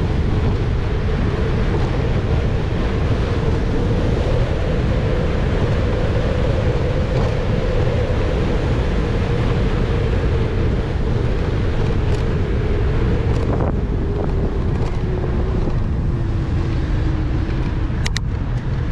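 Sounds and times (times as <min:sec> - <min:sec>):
bike tyre hum: 0:00.0 - 0:18.9
wind rushing over microphone: 0:00.0 - 0:18.9.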